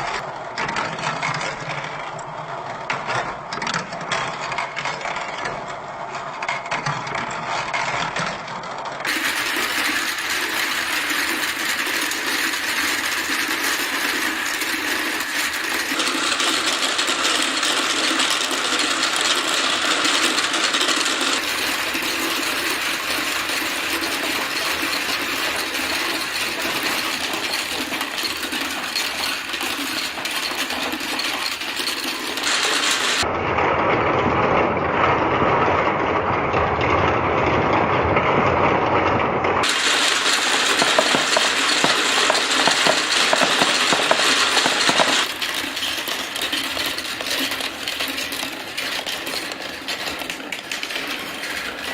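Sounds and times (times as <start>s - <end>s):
balls rattling down marble run: 0.0s - 33.3s, 39.0s - 51.9s.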